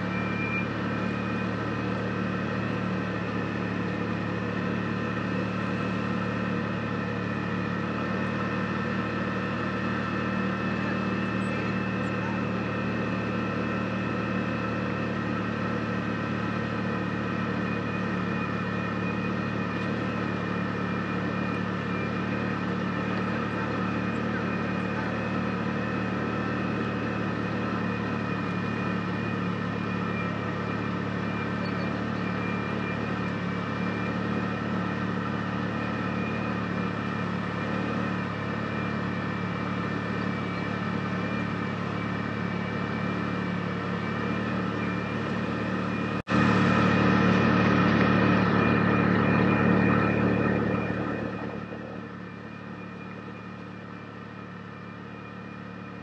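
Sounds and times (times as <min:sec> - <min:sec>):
utility vehicle engine cruising: 0:00.0 - 0:56.0.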